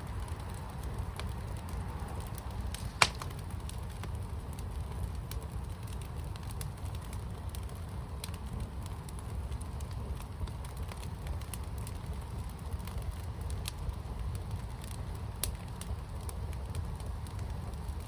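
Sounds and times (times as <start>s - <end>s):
fire crackling: 0.0s - 18.0s
fire popping: 0.0s - 18.0s.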